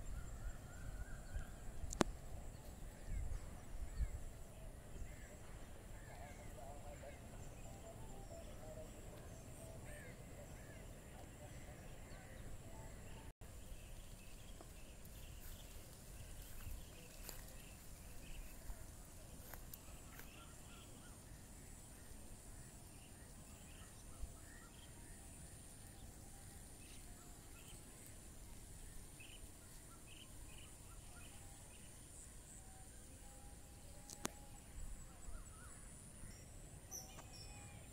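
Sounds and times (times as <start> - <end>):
steady high-pitched hiss: 0.0 - 37.9.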